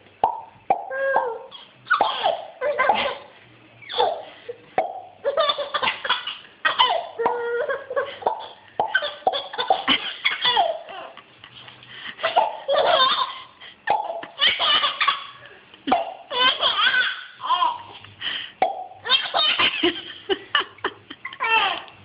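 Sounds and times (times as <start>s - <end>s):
baby laughing: 0.8s - 11.2s, 12.2s - 18.0s, 18.8s - 22.0s.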